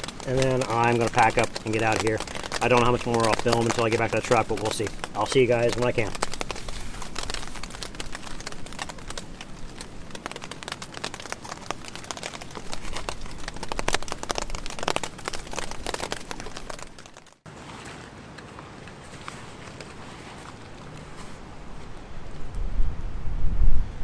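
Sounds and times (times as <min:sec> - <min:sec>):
camping gear rustling: 0:00.0 - 0:22.6.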